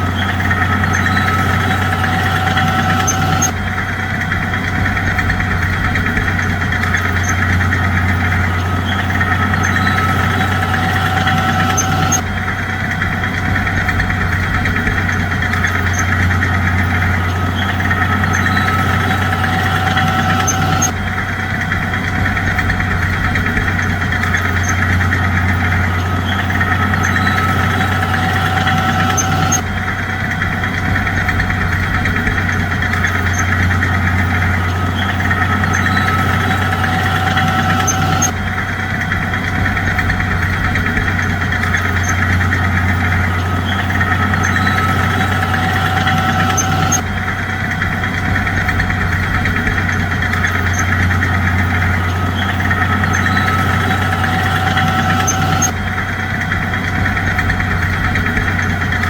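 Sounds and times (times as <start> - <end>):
bulldozer engine droning: 0.0 - 59.0.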